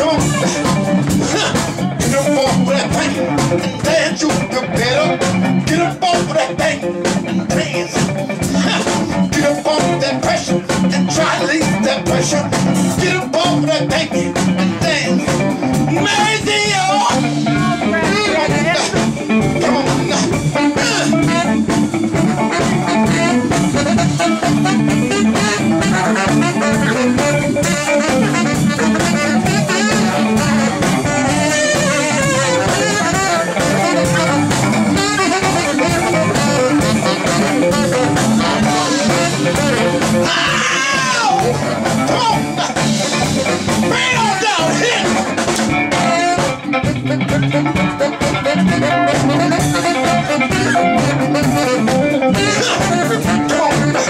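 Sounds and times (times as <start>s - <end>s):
funk band instrumental groove: 0.0s - 54.0s.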